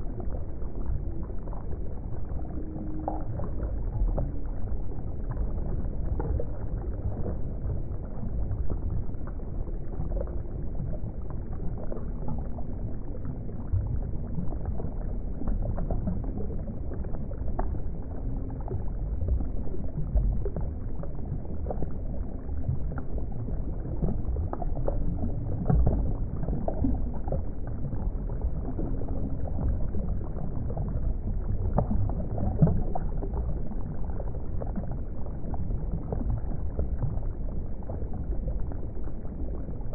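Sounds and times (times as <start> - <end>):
low rumble of moving water: 0.0 - 39.9.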